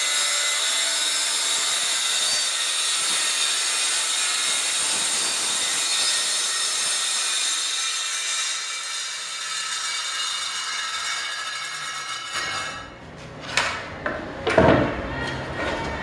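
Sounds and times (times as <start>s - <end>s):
circular saw whining: 0.0s - 13.0s.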